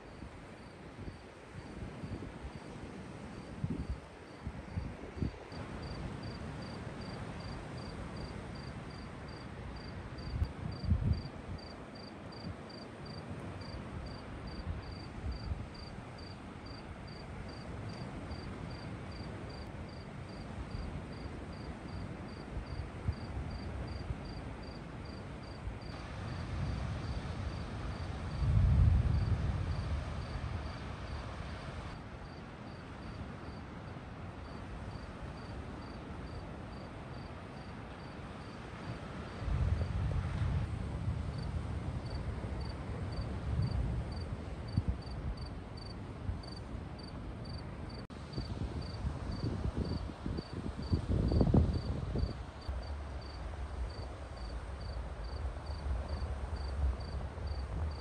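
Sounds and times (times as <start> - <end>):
cricket chirping: 3.4 - 26.4, 29.1 - 31.2, 32.2 - 33.6, 34.4 - 38.6, 42.1 - 58.0.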